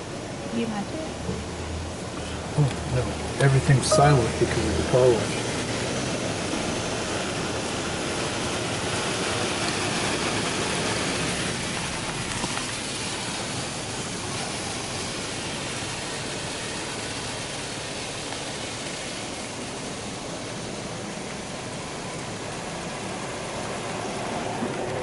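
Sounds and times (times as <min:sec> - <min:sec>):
car wash water jets spraying: 0:00.0 - 0:25.0.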